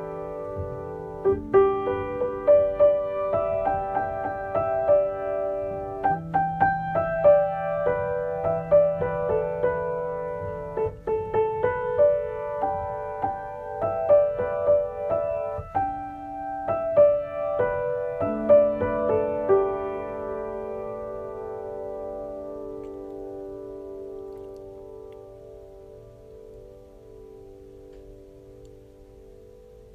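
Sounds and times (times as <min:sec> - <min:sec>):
solo piano melody: 0:00.0 - 0:29.9.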